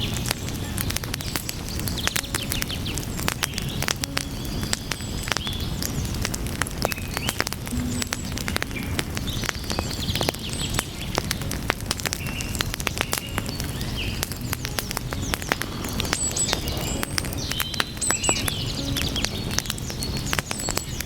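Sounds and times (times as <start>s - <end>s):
small birds chirping: 0.0s - 21.0s
wood fire crackling: 0.0s - 21.0s.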